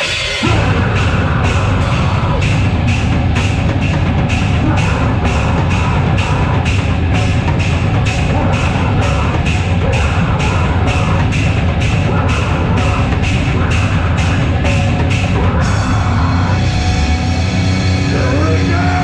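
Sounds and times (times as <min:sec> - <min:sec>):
drum kit fast beat: 0:00.0 - 0:19.0
loud live band playing: 0:00.0 - 0:19.0.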